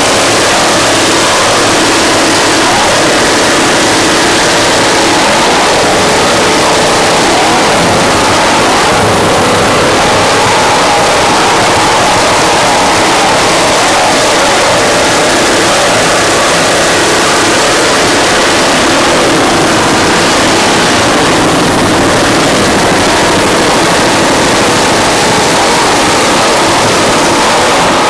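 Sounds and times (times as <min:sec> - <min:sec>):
loud engine noise: 0:00.0 - 0:28.0.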